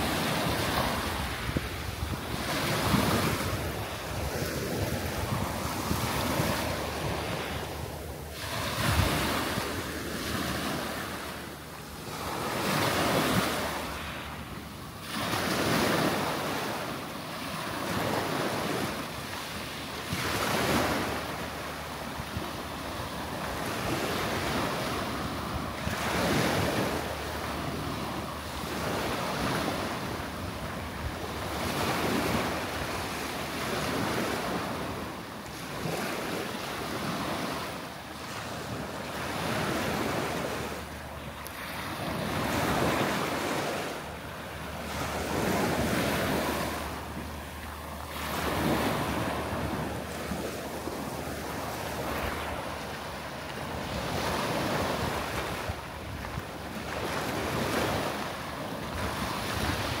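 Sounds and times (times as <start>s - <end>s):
small waves washing on sand: 0.0s - 60.0s.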